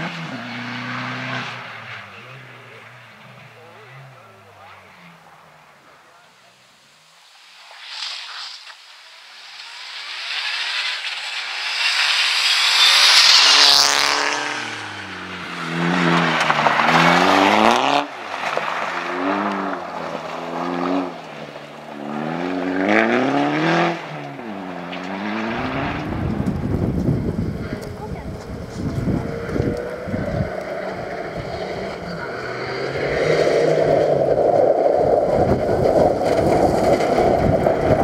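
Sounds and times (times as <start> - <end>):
engine revving: 0.0 - 5.3, 9.7 - 38.0
rally car passing on gravel: 7.4 - 38.0.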